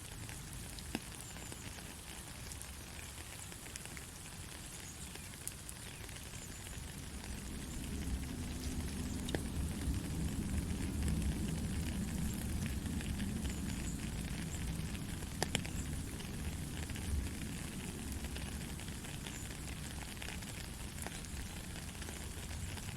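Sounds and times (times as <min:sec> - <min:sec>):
heavy rain: 0:00.0 - 0:22.9.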